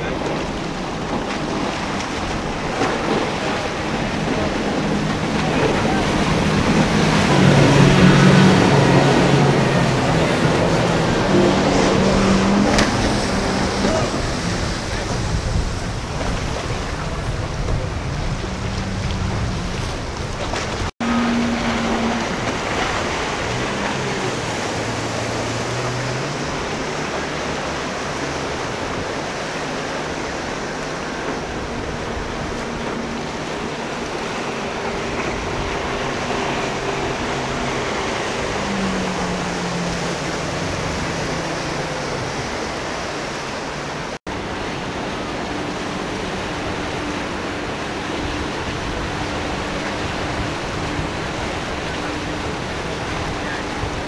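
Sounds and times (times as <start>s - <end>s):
outboard motors running: 0.0s - 54.0s
rush of boat wake: 0.0s - 54.0s
waves breaking and washing: 0.0s - 54.0s.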